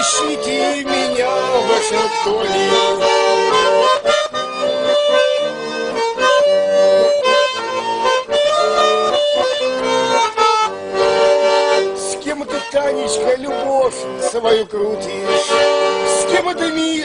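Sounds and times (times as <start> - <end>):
button accordion melody: 0.0 - 17.0.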